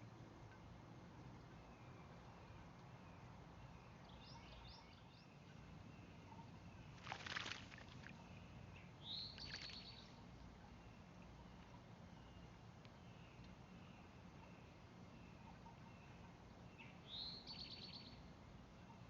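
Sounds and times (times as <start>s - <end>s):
quiet steady hum: 0.0s - 19.0s
songbirds chirping: 0.1s - 19.0s.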